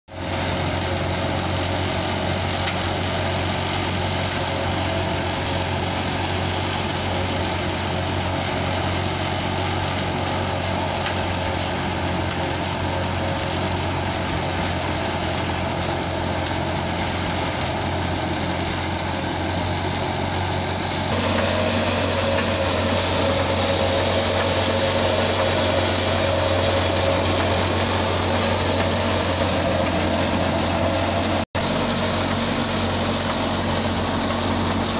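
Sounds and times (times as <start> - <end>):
thresher drum and fans running: 0.1 - 34.9
tractor diesel engine: 0.1 - 34.9.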